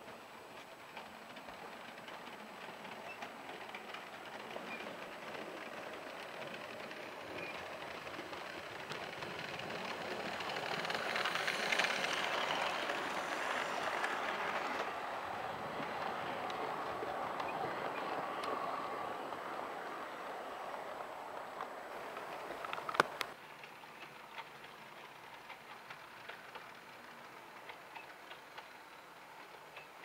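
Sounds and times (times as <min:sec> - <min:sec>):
model train wheels rattling on rail: 0:00.0 - 0:30.0.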